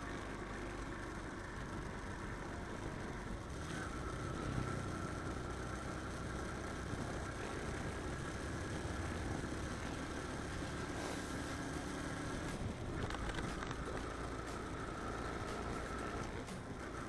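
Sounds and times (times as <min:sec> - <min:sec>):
motorcycle engine cruising: 0:00.0 - 0:17.0
road noise: 0:00.0 - 0:17.0.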